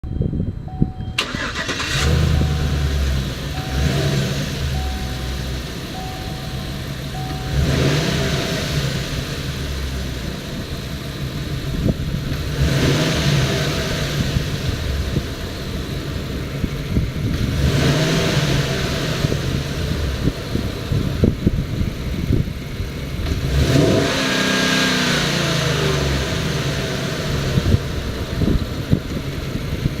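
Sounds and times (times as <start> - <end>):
pickup engine starting and revving: 1.1 - 30.0.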